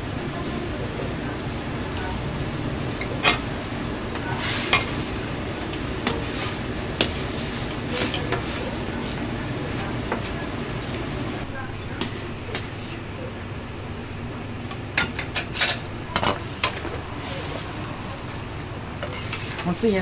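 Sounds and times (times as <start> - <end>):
gas burner hissing: 0.0 - 20.0
noodles boiling: 0.0 - 20.0
vegetables frying: 0.0 - 20.0.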